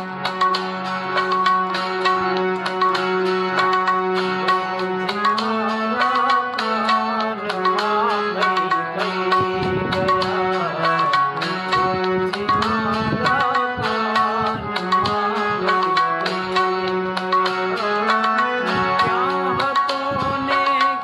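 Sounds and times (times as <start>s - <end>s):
harmonium notes: 0.0s - 21.0s
tabla beating a rhythm: 0.0s - 21.0s
wavering melody line: 0.0s - 21.0s.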